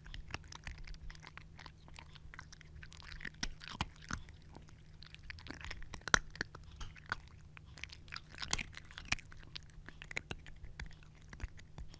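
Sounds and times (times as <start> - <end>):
cat crunching dry kibble: 0.0 - 11.9.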